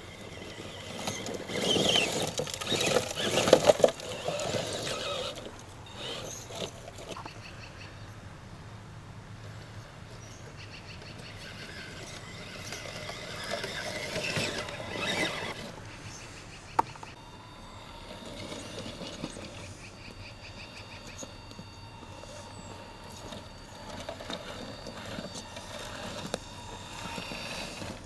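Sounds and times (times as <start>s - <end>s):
electric motor and gears whining: 0.0s - 7.3s, 11.1s - 16.2s, 16.8s - 28.0s.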